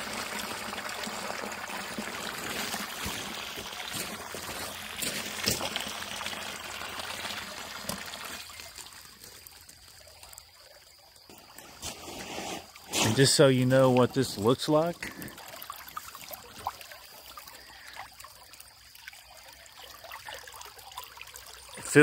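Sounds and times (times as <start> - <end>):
stream water trickling: 0.0 - 22.0.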